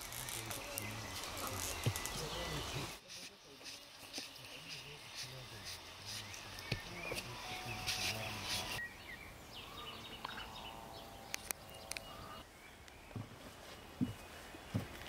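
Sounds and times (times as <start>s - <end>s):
birds chirping: 0.0s - 15.0s
outdoor background hiss: 0.0s - 15.0s.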